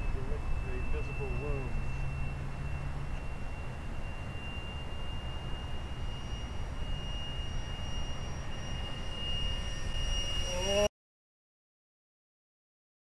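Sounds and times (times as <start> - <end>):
electric jet fan whine: 0.0 - 10.9
low rumble: 0.0 - 10.9.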